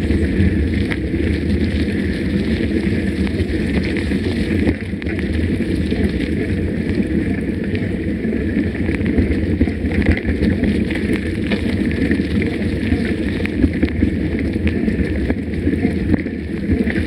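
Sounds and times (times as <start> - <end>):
bike clicks and rattles: 0.0 - 17.0
bike tyre noise: 0.0 - 17.0
wind rumble on microphone: 0.0 - 17.0.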